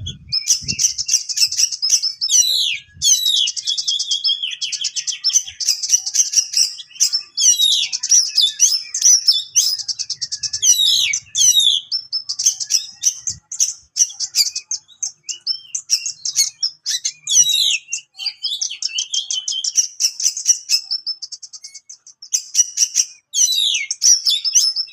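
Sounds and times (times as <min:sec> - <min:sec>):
bird singing whistles and rattles: 0:00.0 - 0:24.9.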